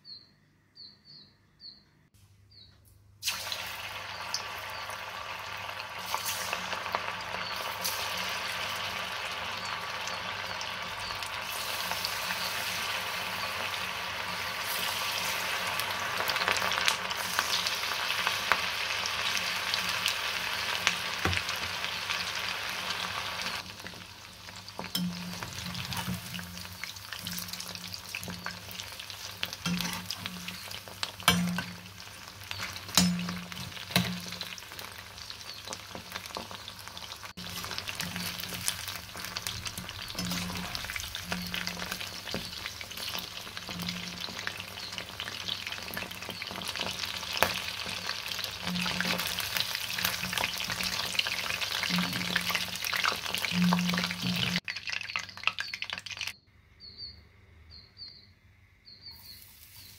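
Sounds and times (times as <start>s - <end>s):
chicken sizzling in hot oil: 3.2s - 56.4s, 59.2s - 59.9s.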